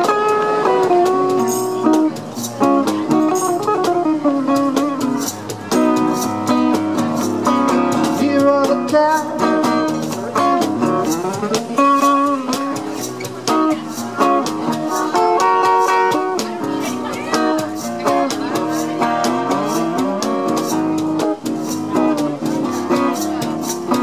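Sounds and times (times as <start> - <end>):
acoustic guitar melody: 0.0 - 24.0
cajon beat: 0.0 - 24.0.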